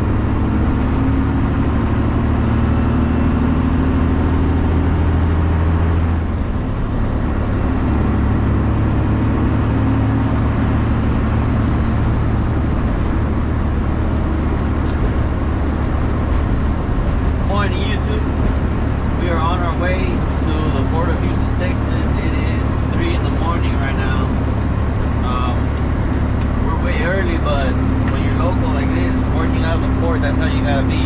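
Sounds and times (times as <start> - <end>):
diesel truck engine drone: 0.0 - 31.0.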